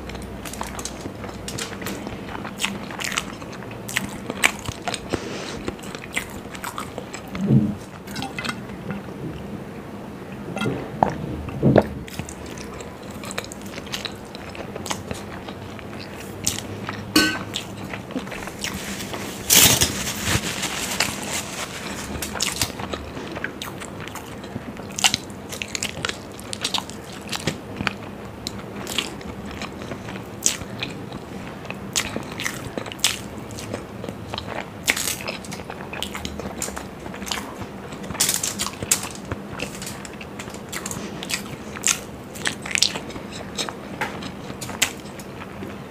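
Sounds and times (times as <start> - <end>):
wet chewing with mouth clicks: 0.0 - 9.0, 10.6 - 45.8.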